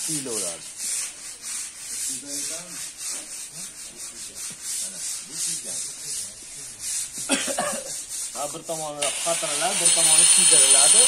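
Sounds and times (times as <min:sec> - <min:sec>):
rhythmic rubbing strokes: 0:00.0 - 0:11.0.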